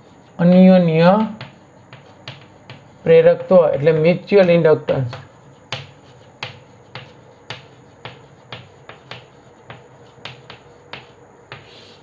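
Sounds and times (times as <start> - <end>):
chalk tapping on blackboard: 0.0 - 12.0.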